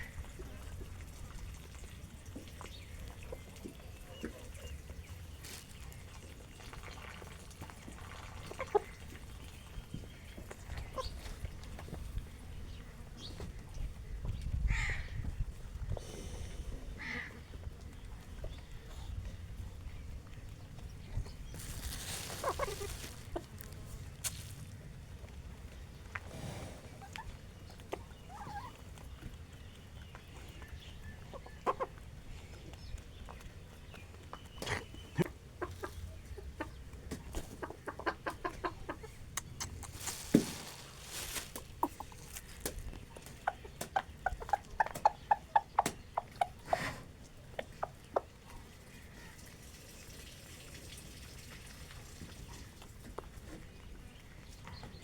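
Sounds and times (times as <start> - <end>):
chickens clucking: 0.0 - 50.0.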